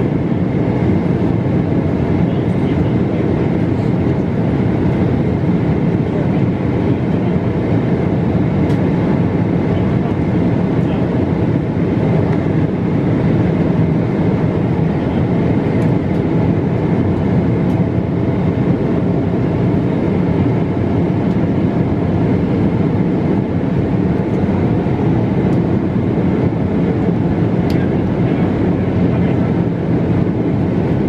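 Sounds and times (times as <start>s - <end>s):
jet engines droning: 0.0s - 31.0s.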